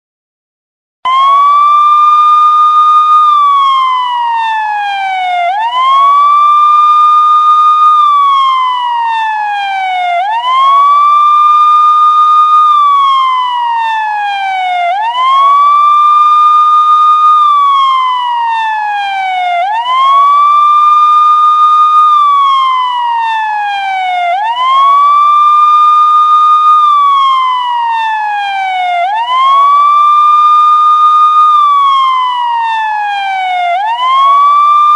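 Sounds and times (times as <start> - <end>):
police siren wailing: 1.1 - 34.9.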